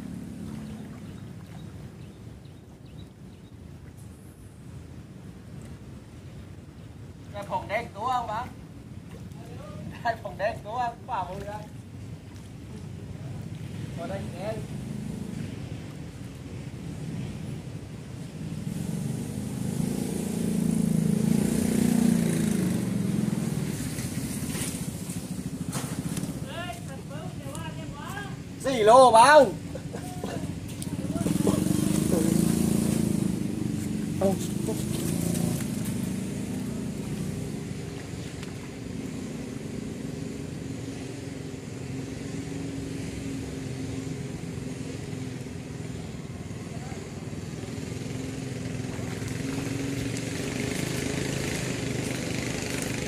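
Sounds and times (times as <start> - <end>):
small engine droning: 0.0 - 2.3, 12.0 - 53.0.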